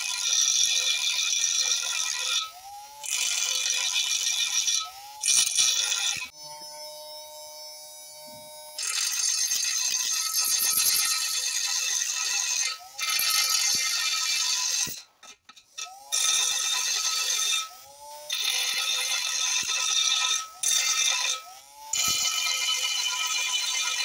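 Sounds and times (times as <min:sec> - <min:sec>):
abrasive disc grinding steel: 0:00.0 - 0:24.0
small motor whining: 0:02.0 - 0:24.0.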